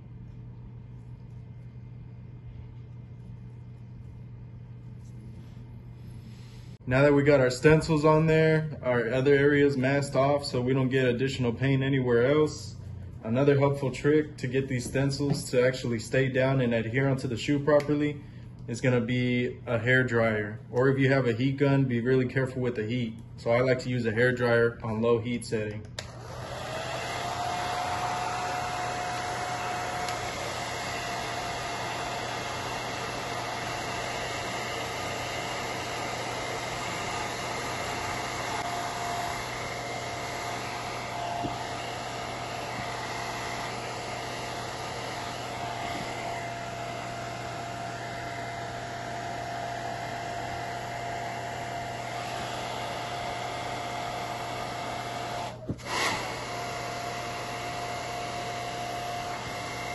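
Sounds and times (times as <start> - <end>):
hair dryer blowing with whine: 5.0 - 22.1, 26.0 - 59.9.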